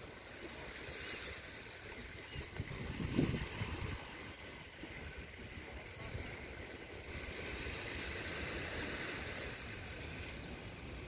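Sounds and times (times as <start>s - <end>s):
small waves lapping on shore: 0.0s - 11.0s
wind rumble on microphone: 2.0s - 11.0s.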